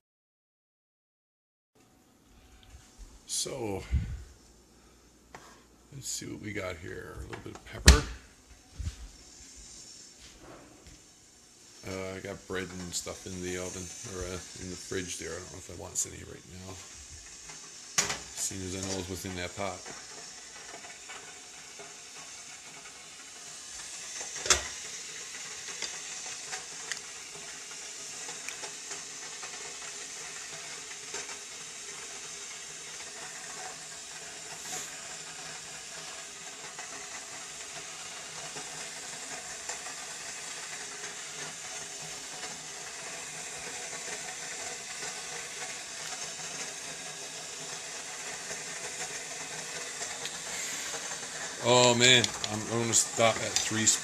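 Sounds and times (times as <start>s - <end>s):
pot simmering with hiss: 2.1s - 54.0s.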